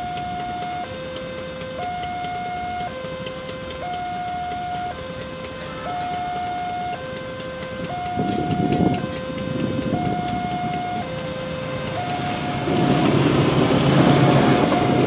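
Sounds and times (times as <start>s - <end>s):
two-tone level crossing alarm: 0.0s - 15.0s.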